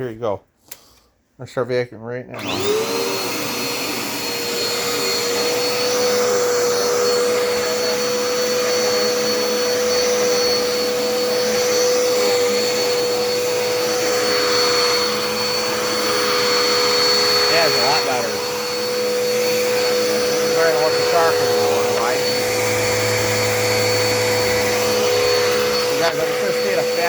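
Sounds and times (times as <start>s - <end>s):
vacuum cleaner running: 2.3s - 27.0s.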